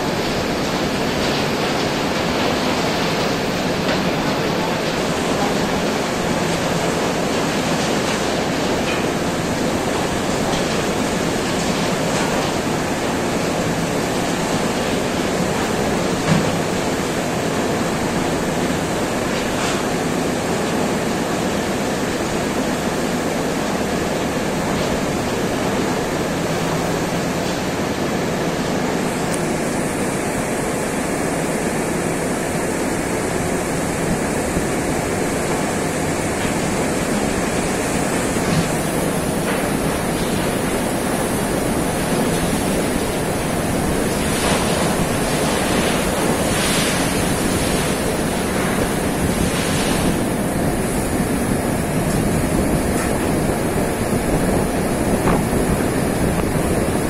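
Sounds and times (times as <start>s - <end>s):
coal pouring into rail wagon: 0.0s - 57.0s.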